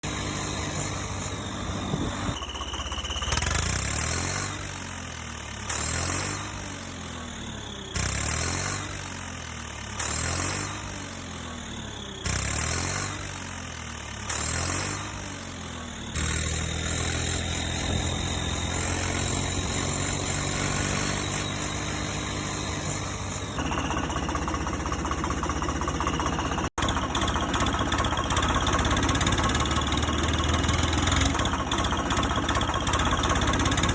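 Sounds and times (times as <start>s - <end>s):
tractor engine revving: 0.0s - 33.9s.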